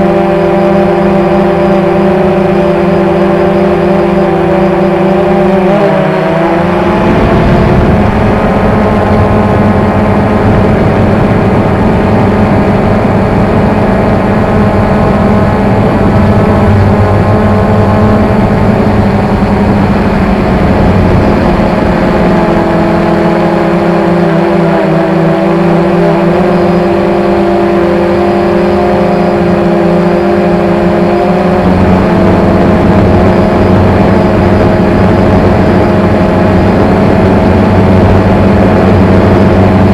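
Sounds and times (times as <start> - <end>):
quadcopter motors humming: 0.0 - 39.9.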